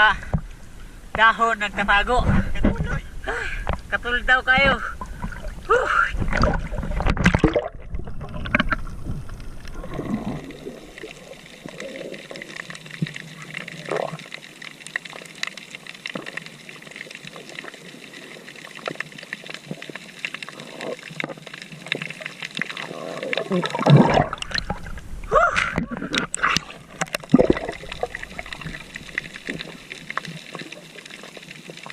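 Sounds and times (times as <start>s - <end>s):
water trickling and splashing: 0.1s - 31.9s.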